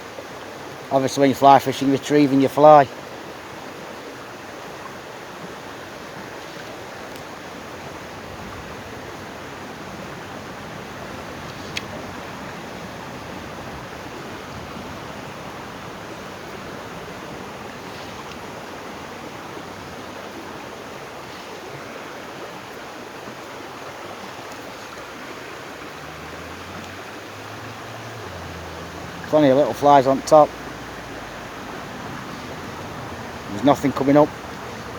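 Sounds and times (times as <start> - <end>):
flowing river water: 0.0 - 34.9.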